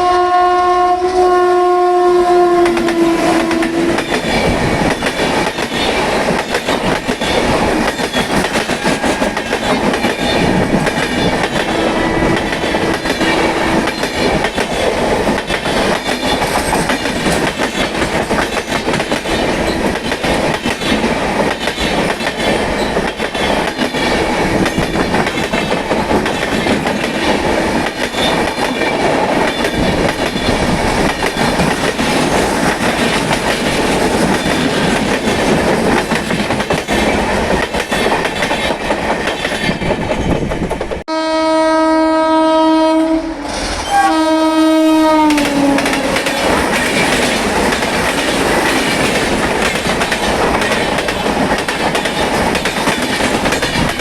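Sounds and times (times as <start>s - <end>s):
train wheels clattering: 2.6s - 41.1s, 45.1s - 54.0s.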